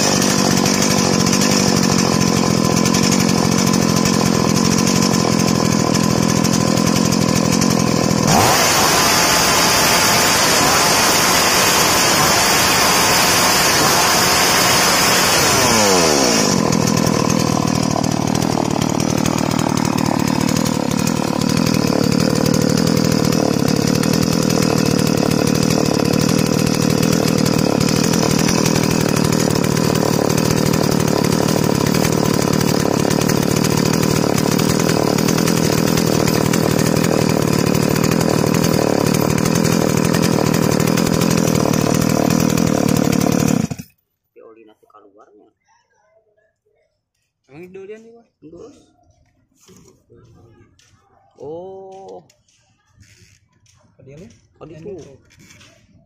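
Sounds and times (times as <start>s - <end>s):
chainsaw engine idling: 0.0s - 44.0s, 49.6s - 56.0s.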